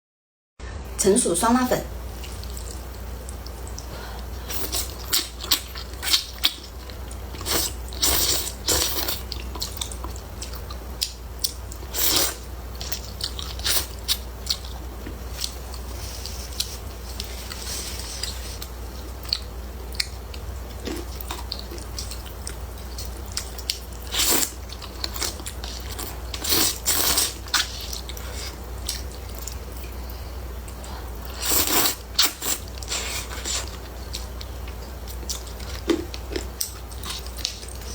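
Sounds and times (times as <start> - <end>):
chewing and mouth sounds: 2.1 - 37.9.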